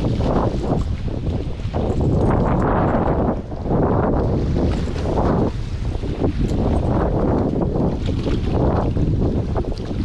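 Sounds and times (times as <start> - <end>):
water sloshing against hull: 0.0 - 10.0
wind buffeting microphone: 0.0 - 10.0.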